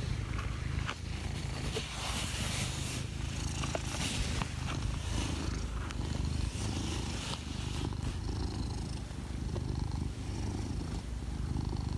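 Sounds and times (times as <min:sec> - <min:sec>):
cat purring: 0:00.0 - 0:11.9.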